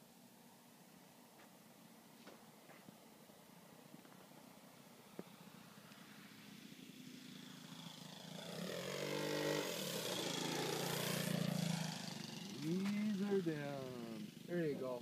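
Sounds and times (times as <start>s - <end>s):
model airplane engine and propeller: 0.0s - 15.0s.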